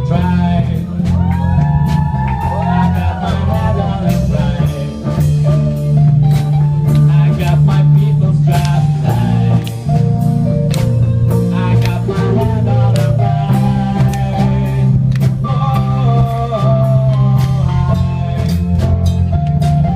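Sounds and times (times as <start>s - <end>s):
live rock band playing: 0.0s - 19.9s.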